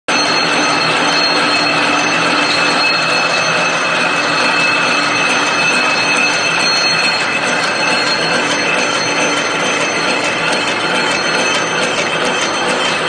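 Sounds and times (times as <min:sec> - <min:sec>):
high steady whining tones: 0:00.1 - 0:13.0
machine metallic clatter: 0:00.1 - 0:13.0.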